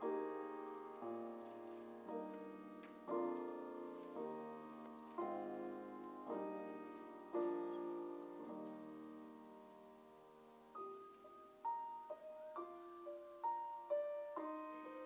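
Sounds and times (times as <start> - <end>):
grand piano chords: 0.0 - 15.0.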